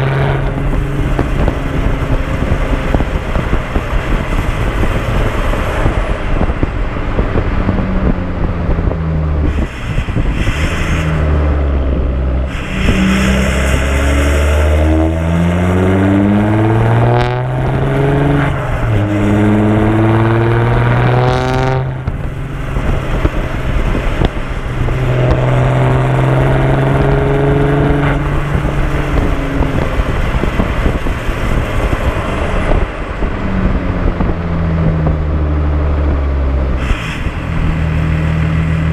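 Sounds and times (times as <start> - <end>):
diesel engine accelerating: 0.0 - 38.9
road and wind noise: 0.0 - 38.9.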